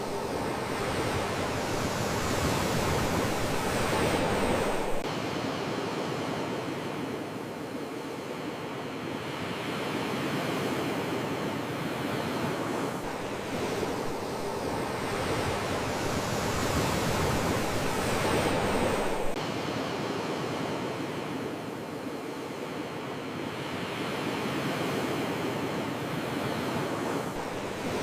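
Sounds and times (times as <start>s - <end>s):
sea waves washing ashore: 0.0s - 28.0s.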